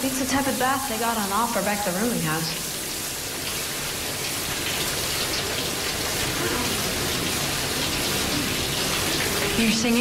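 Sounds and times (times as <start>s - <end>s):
showers spraying on tiled floor: 0.0s - 10.0s.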